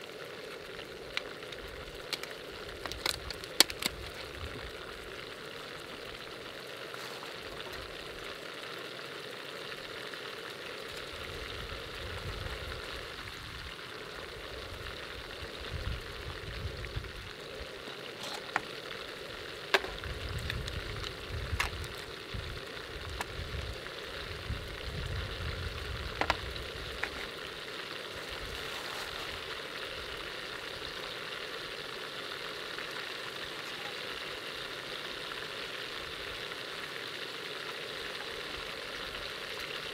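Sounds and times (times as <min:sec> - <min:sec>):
oil sizzling in a pan: 0:00.0 - 0:39.9.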